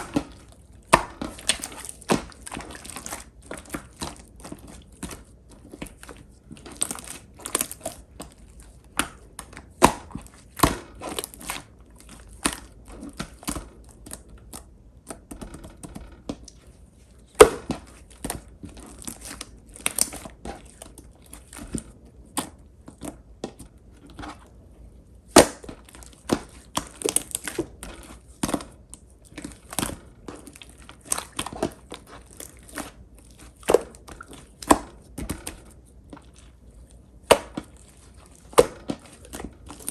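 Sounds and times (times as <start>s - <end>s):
slime squished by hand: 0.0s - 24.6s, 25.2s - 39.9s.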